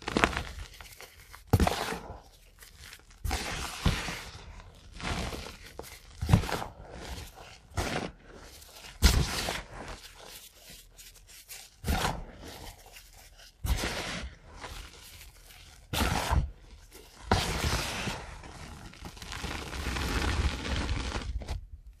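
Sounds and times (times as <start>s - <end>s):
chalk crunching by hand: 0.0s - 21.6s
rubbing loose powder: 0.0s - 21.7s.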